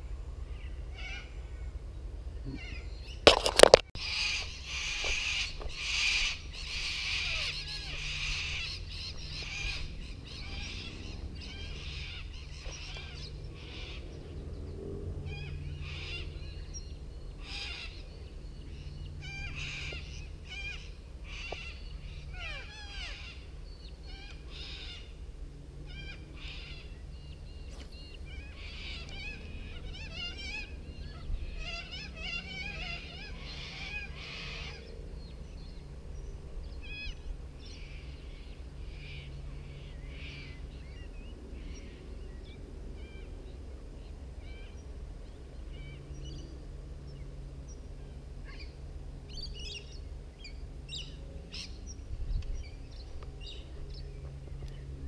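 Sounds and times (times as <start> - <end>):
birds calling and chirping: 0.0 - 55.0
steady low rumble: 0.0 - 55.0.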